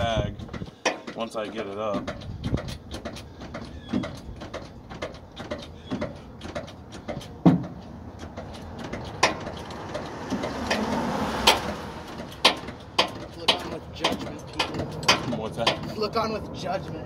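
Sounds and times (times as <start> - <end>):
metallic clicks and knocks of tools: 0.4 - 16.0.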